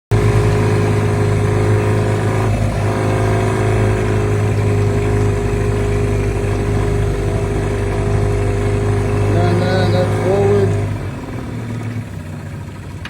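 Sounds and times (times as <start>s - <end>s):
outboard motor running: 0.1s - 13.0s.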